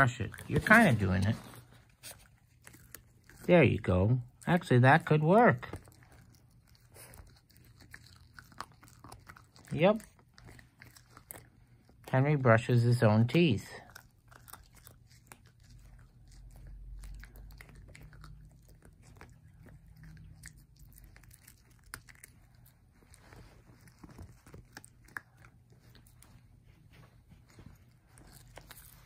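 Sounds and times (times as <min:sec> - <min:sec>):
puppy chewing plastic: 0:00.0 - 0:12.4, 0:13.2 - 0:29.0.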